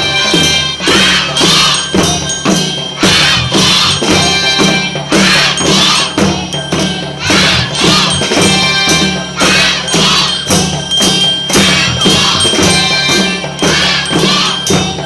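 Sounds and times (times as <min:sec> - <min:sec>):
marching band playing: 0:00.0 - 0:15.0
percussion beat: 0:00.0 - 0:15.0.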